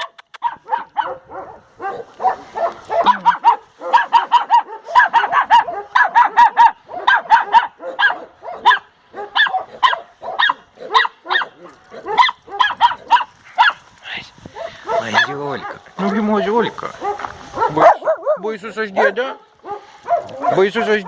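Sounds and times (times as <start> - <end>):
dog barking rapidly: 0.0 - 13.8, 14.6 - 16.1, 17.0 - 21.0.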